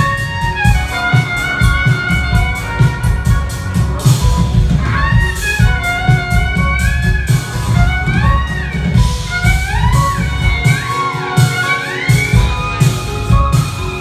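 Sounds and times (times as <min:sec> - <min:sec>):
drum kit: 0:00.0 - 0:14.0
electric bass: 0:00.0 - 0:14.0
keyboards: 0:00.0 - 0:14.0
violin lead sliding in pitch: 0:00.0 - 0:14.0.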